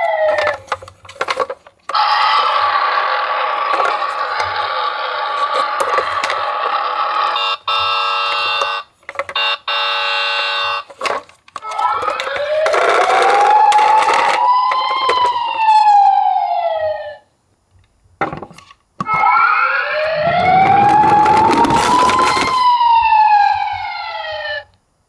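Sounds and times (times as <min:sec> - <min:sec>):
toy electronic siren: 0:00.0 - 0:00.6, 0:01.9 - 0:10.9, 0:11.6 - 0:17.2, 0:19.1 - 0:24.7.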